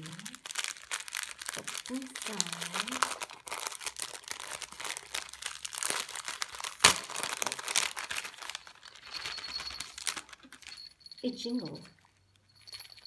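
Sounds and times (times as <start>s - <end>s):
paper and plastic crinkling: 0.0s - 10.9s.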